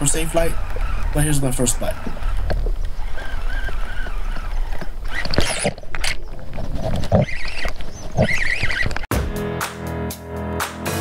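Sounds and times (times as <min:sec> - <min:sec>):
fishing reel reeling: 0:00.0 - 0:09.1
wind rumbling on microphone: 0:00.0 - 0:09.1.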